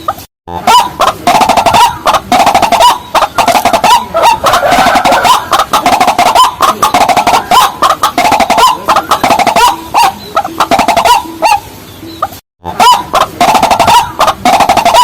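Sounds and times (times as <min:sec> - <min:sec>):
rails rapid clucking calls: 0:00.0 - 0:15.0.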